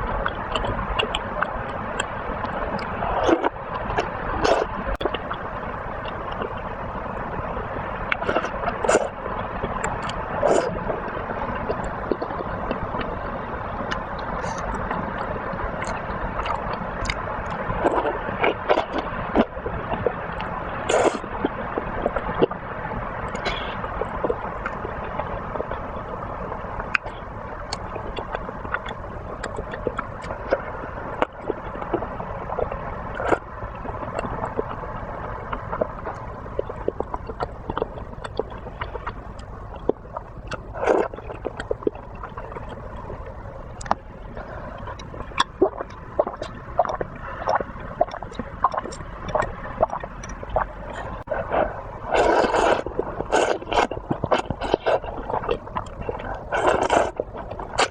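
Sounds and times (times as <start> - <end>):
broth bubbling in a pot: 0.0 - 57.9.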